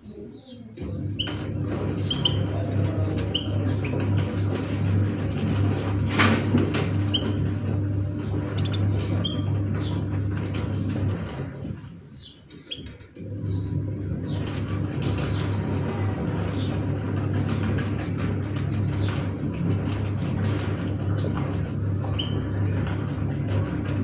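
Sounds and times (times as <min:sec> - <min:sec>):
low mechanical hum: 0:00.4 - 0:24.0.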